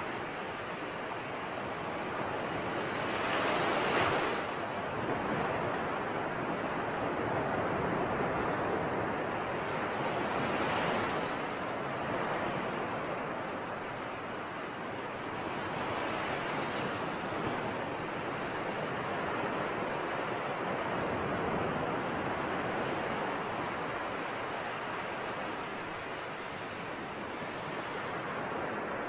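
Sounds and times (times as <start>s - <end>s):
waves washing onto shore: 0.0s - 29.0s.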